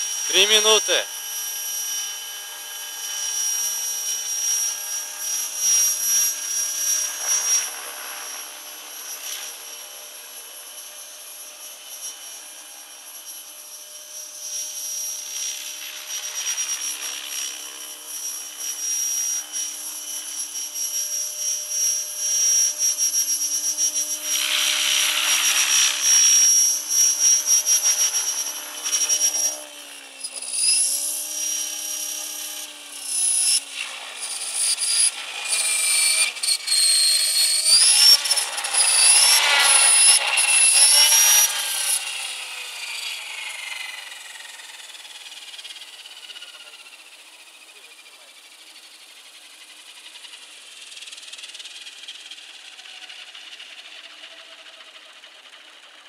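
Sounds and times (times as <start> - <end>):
high-pitched motor whine: 0.0 - 56.0
model helicopter rotor chopping: 0.0 - 56.0.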